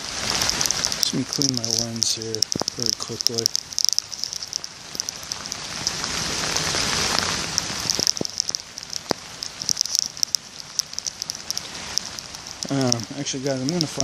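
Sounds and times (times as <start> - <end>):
raindrops clicking on microphone: 0.0 - 14.0
steady rain: 0.0 - 14.0.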